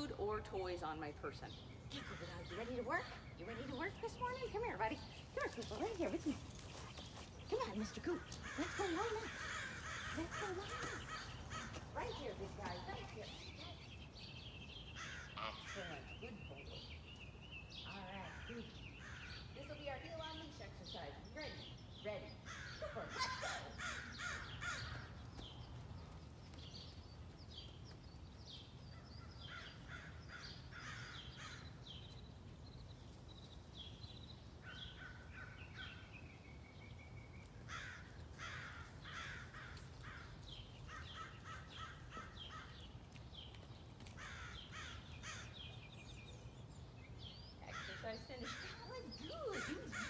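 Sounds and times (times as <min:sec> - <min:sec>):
birds calling: 0:00.0 - 0:50.0.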